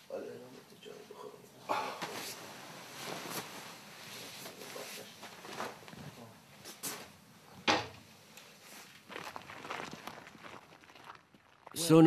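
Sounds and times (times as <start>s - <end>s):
bedding and clothing rustling: 1.7s - 11.5s.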